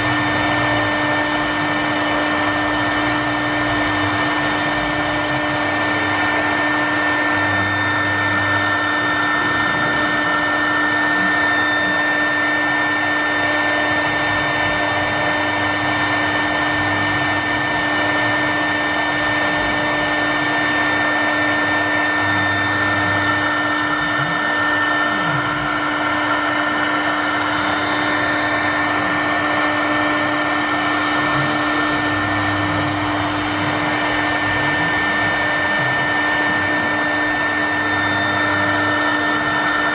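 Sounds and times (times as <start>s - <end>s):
bit engraving wood: 0.0s - 39.9s
router spindle high whine: 0.0s - 39.9s.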